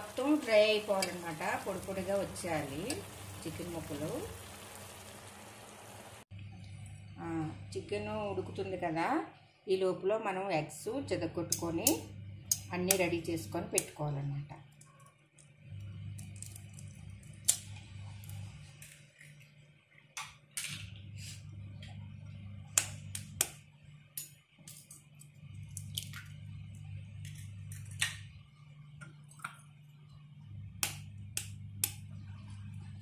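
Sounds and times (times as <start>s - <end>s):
low steady hum: 0.0s - 20.0s, 20.6s - 33.0s.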